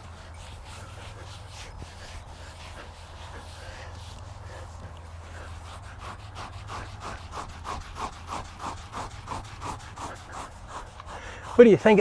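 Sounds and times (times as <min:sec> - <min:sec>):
fingers scratching horse hair: 0:00.0 - 0:12.0.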